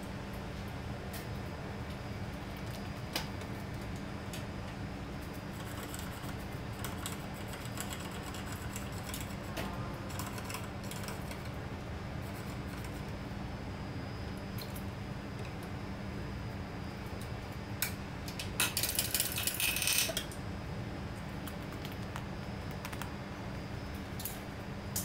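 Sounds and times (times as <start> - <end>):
low workshop hum: 0.0 - 25.0.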